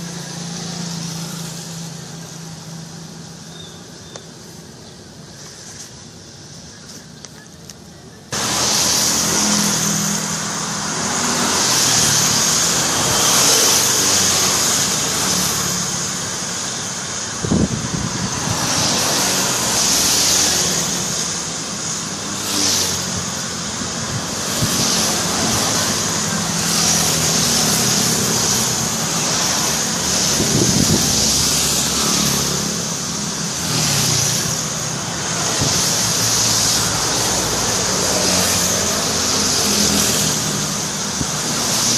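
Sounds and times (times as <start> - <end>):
loud road noise and hiss: 0.0 - 41.9.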